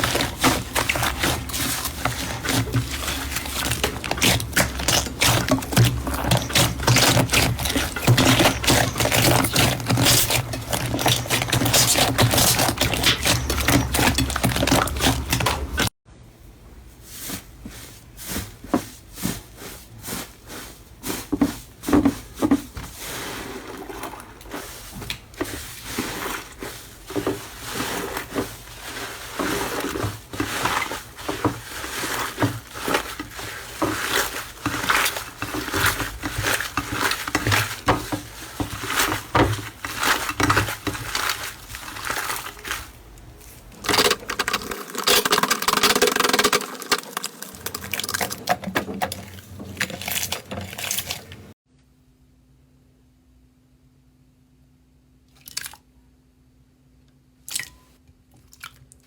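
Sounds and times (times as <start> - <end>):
slime squelching by hand: 0.0 - 15.9, 17.2 - 51.6.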